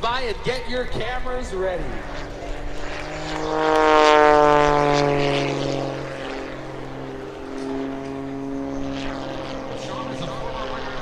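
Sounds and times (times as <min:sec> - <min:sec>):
propeller plane engine flying past: 0:00.0 - 0:11.0.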